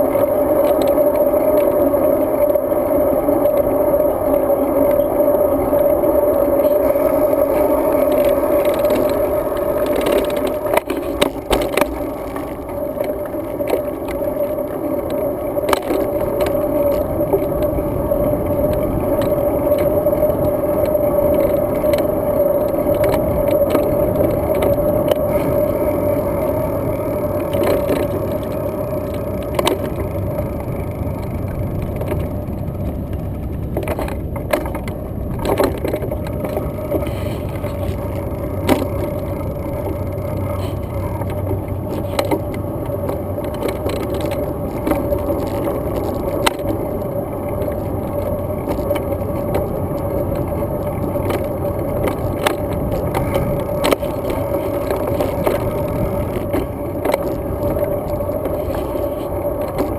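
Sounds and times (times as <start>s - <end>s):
bike tyre rumble: 0.0s - 59.9s
wind noise: 0.0s - 59.9s.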